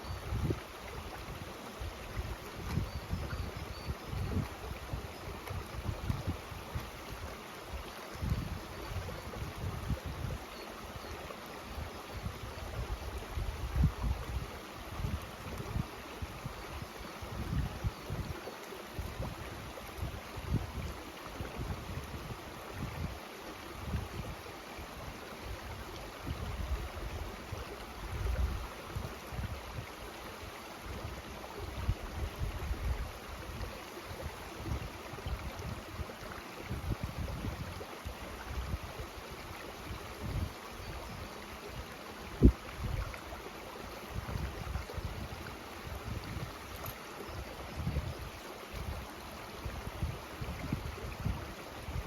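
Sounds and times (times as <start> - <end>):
mountain stream rushing: 0.0 - 52.0.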